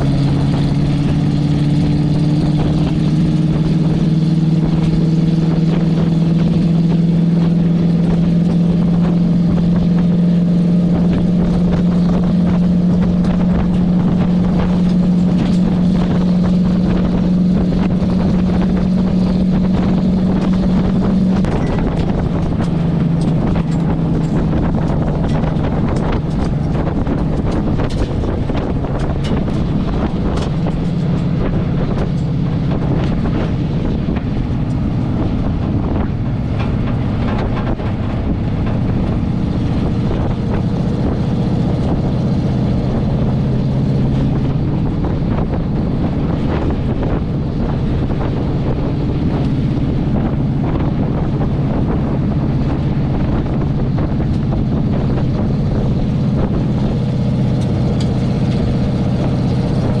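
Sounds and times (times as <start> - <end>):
truck engine droning: 0.0 - 60.0.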